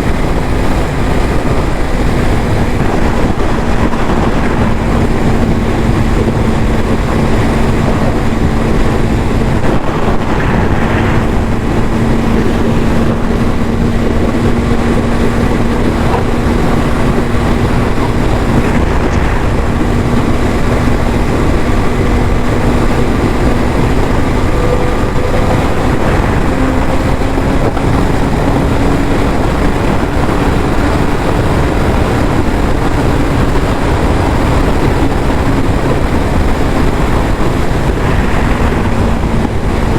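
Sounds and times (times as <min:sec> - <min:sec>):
dense rushing noise: 0:00.0 - 0:39.9
motorcycle engine humming: 0:00.0 - 0:39.9.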